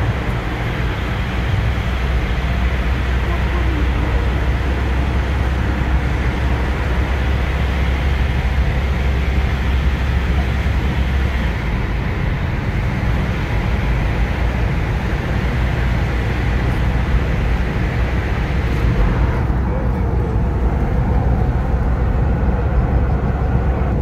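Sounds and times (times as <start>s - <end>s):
deep low rumble: 0.0s - 24.0s
road and tyre noise: 0.0s - 24.0s.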